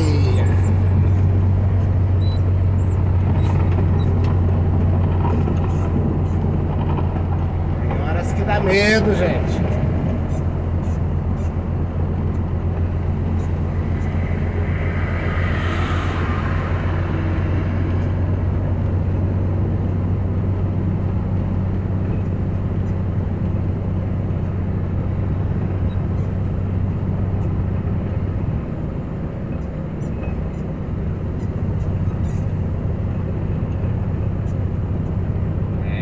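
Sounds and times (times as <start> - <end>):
vehicle engine drone: 0.0 - 36.0.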